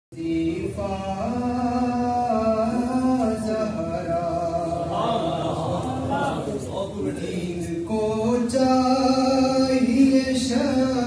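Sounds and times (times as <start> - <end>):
man chanting into a microphone: 0.1 - 11.0.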